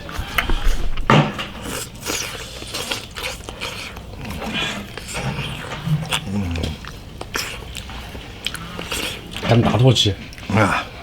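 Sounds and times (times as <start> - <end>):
chewing and mouth noises: 0.0 - 11.0.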